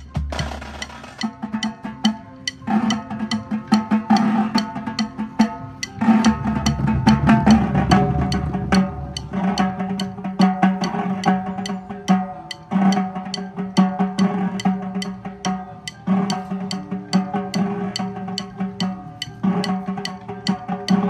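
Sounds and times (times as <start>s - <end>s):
snare and tenor drums: 0.0s - 21.0s
bass drums rumbling: 3.3s - 21.0s.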